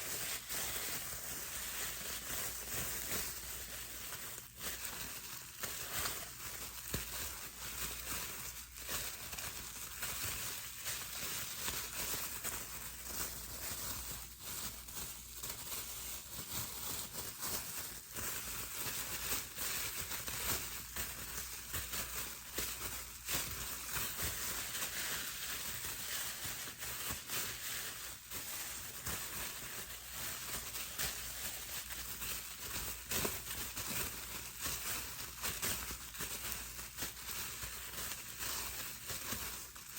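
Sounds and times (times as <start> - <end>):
bubble wrap crinkling and popping: 0.0 - 39.9.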